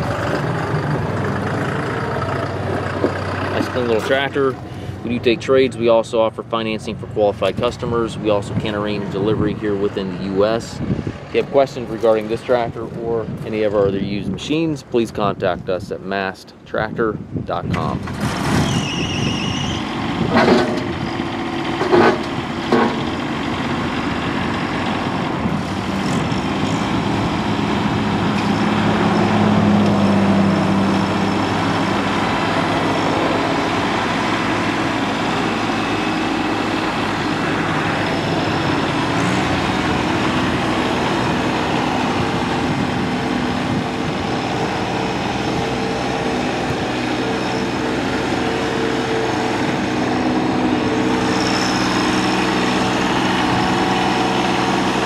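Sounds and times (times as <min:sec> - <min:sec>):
tractor diesel engine running: 0:00.0 - 0:15.0, 0:17.8 - 0:55.0.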